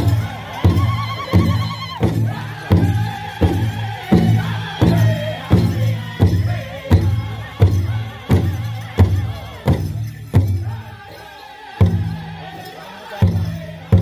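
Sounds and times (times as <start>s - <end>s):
big drum steady beat: 0.0s - 14.0s
drum group singing: 0.0s - 14.0s.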